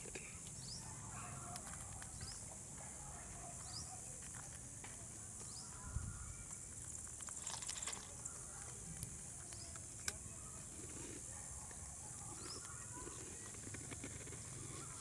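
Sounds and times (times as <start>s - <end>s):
small clicks and scratches: 0.0s - 5.6s, 6.4s - 15.0s.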